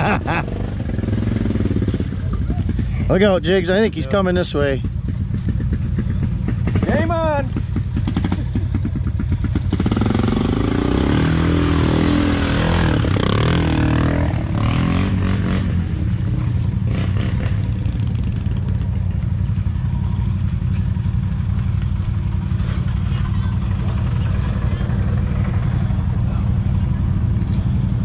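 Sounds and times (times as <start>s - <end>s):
low engine rumble: 0.0s - 10.8s, 11.4s - 28.0s
atv engine revving: 0.0s - 28.0s.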